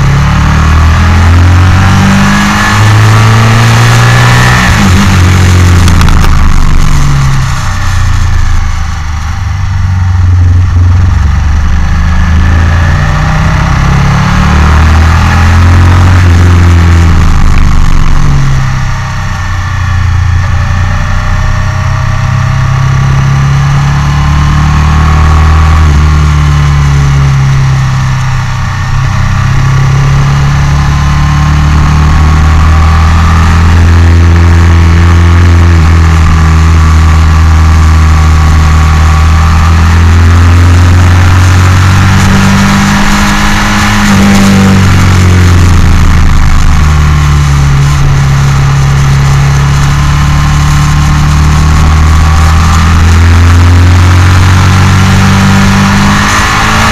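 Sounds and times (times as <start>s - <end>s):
motorcycle engine revving hard: 0.0s - 56.9s.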